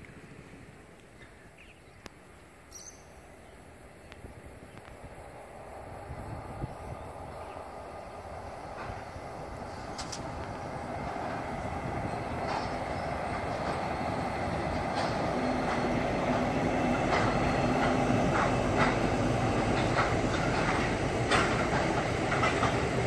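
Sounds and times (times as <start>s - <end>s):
train rumble on bridge: 2.5s - 23.0s.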